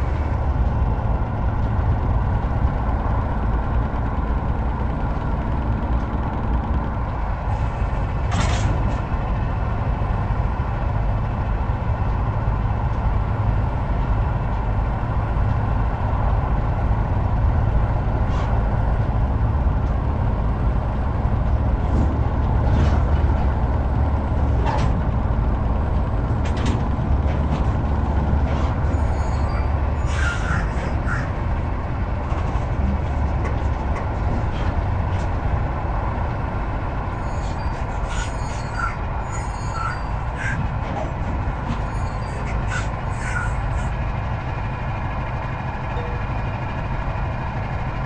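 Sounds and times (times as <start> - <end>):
heavy truck engine and road rumble: 0.0 - 48.0.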